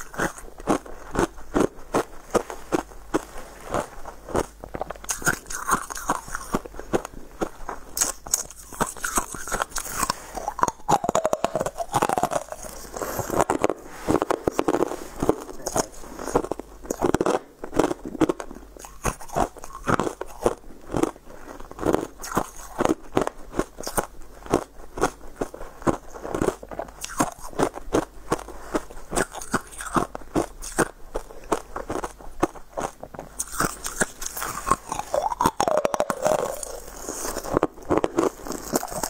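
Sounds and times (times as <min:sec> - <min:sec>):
teeth crunching ice: 0:00.0 - 0:39.0.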